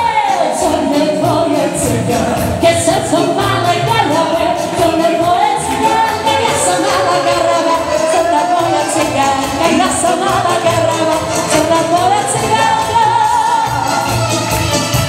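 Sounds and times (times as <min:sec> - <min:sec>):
woman singing into microphone: 0:00.0 - 0:14.2
live band beat: 0:00.0 - 0:15.0.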